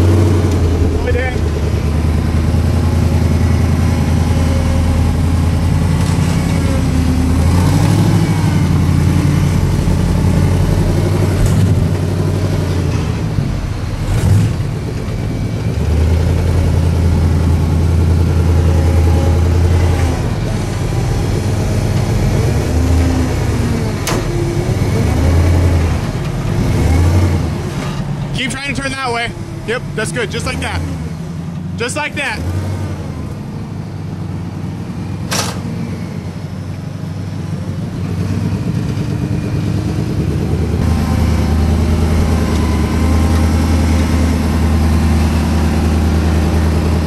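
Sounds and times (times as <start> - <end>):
off-road vehicle engine revving: 0.0 - 47.0.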